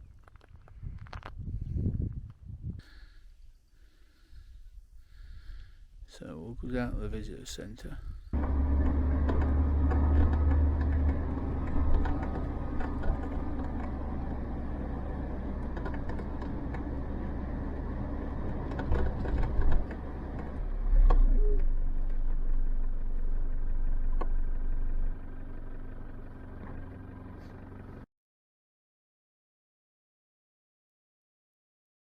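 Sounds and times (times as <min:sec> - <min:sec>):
vehicle engine and road rumble: 0:00.0 - 0:28.1.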